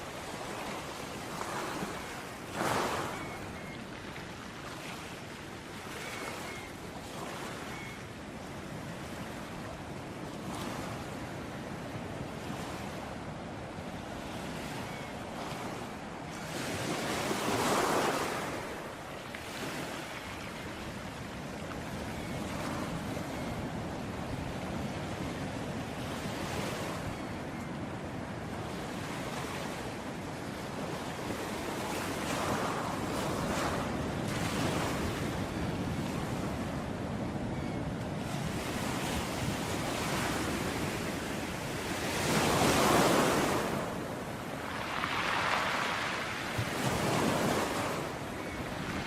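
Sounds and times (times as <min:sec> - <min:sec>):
ocean waves washing on shore: 0:00.0 - 0:49.0.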